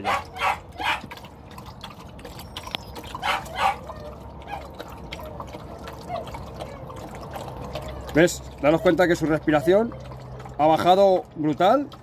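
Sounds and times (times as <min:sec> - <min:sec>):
dogs lapping water: 0:00.0 - 0:12.0.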